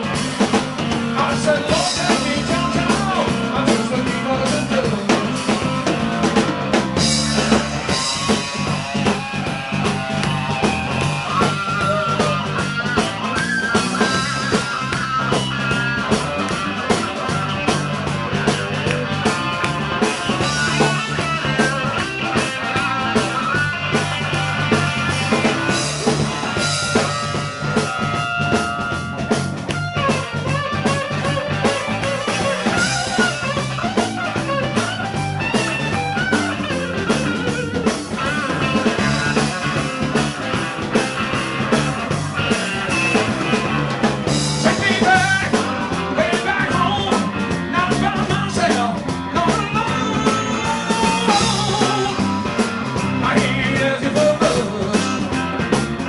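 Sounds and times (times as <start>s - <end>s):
bass line: 0.0s - 56.0s
drum kit: 0.0s - 56.0s
electric guitar lead: 0.0s - 56.0s.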